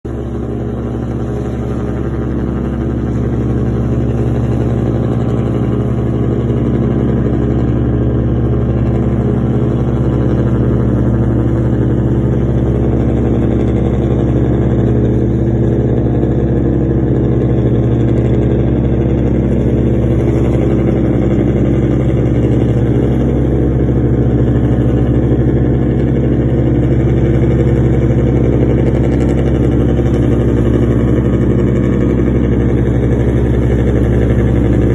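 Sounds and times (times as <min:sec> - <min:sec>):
boat engine droning: 0:00.0 - 0:34.9.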